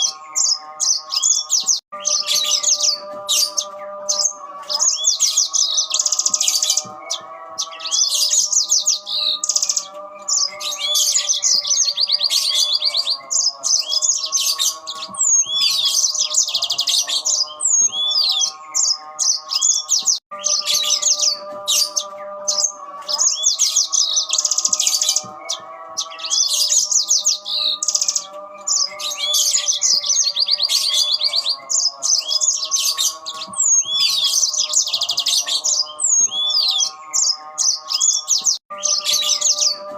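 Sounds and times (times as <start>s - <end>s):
canaries trilling and chattering: 0.0s - 39.9s.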